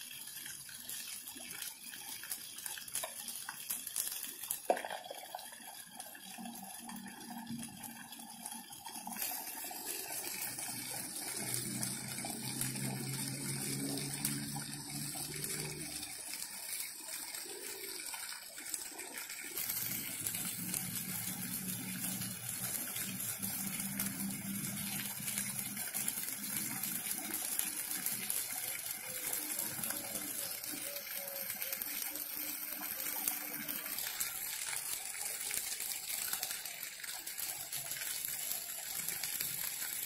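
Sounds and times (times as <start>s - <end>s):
fountain jets spraying water: 0.0s - 40.0s.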